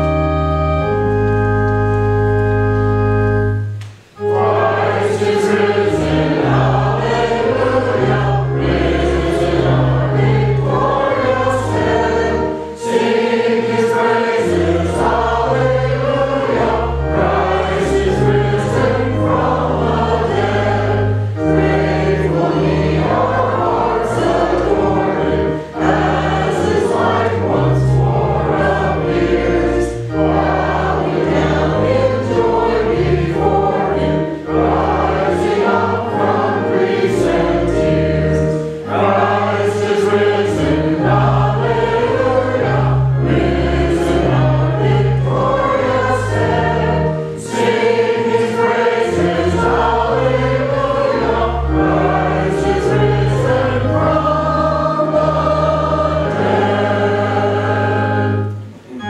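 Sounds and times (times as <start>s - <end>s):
congregation singing a hymn: 0.0s - 59.0s
held bass notes: 0.0s - 59.0s.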